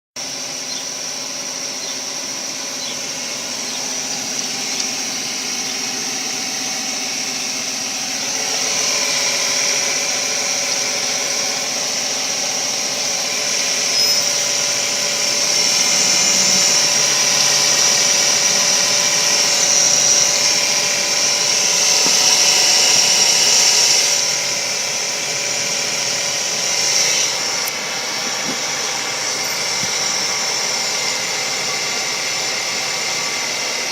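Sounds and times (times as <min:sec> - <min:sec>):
high-pitched car whine: 0:00.2 - 0:33.9
mechanical hum: 0:00.2 - 0:33.9.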